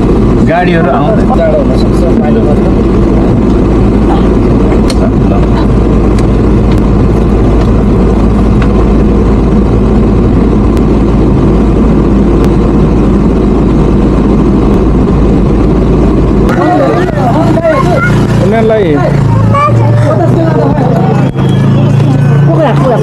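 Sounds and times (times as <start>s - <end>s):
scooter engine: 0.0s - 23.0s
wind rumble on microphone: 0.0s - 23.0s.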